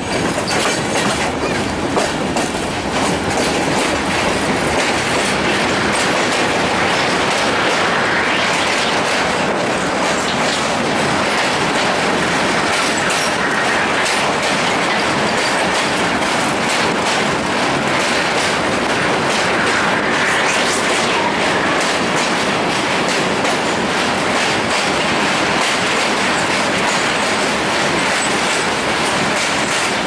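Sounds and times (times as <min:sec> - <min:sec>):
wheel and track noise: 0:00.0 - 0:30.0.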